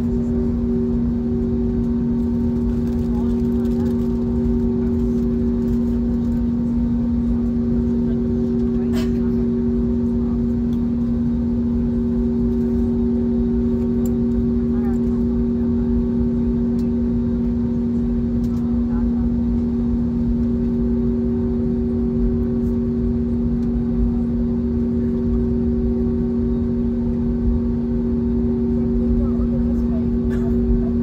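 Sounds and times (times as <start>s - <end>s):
aircraft cabin engine hum: 0.0s - 31.0s.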